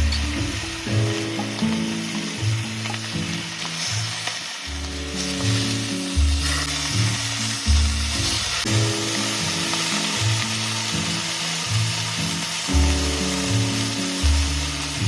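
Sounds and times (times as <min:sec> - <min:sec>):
background music with bass line: 0:00.0 - 0:11.1, 0:12.0 - 0:15.0
food sizzling in a pan: 0:00.0 - 0:15.0.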